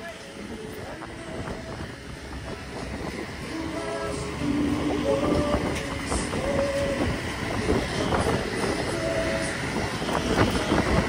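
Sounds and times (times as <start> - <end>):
line hauler mechanical rumble: 0.0 - 11.0.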